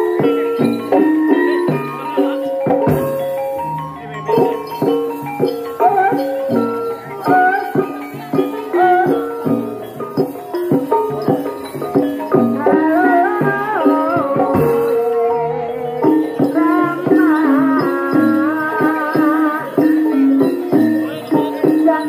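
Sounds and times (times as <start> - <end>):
drum strokes: 0.0 - 22.0
tuned percussion: 0.0 - 22.0
wavering melody line: 0.0 - 22.0.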